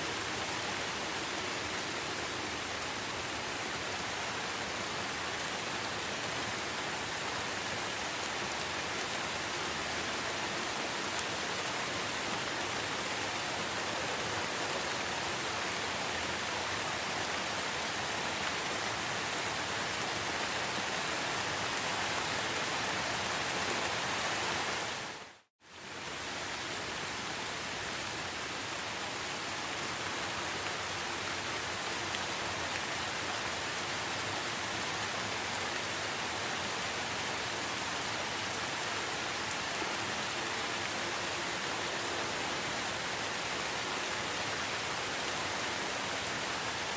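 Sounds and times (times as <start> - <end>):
heavy rainfall hiss: 0.0 - 46.9.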